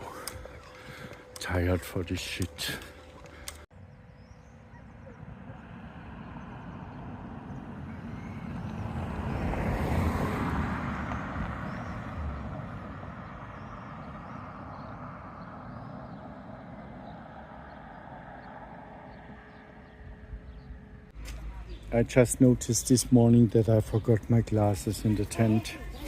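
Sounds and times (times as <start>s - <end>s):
motor vehicle passing by: 4.2s - 26.0s.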